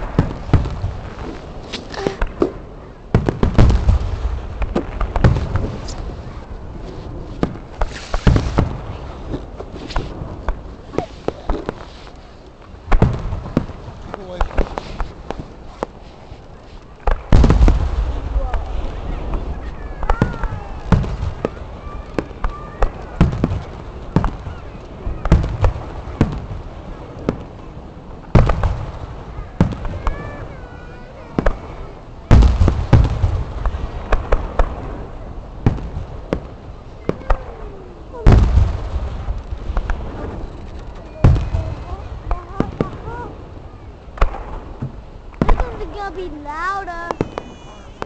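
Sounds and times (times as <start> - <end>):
fireworks bangs and pops: 0.0 - 48.0.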